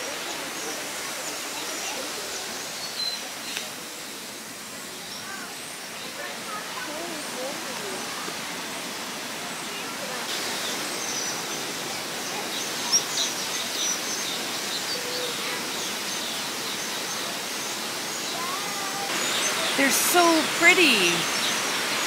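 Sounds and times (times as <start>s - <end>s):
running water: 0.0s - 22.0s.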